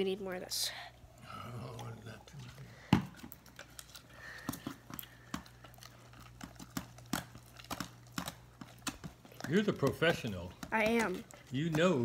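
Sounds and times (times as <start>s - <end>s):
slime being stirred in bowl: 1.2s - 12.0s.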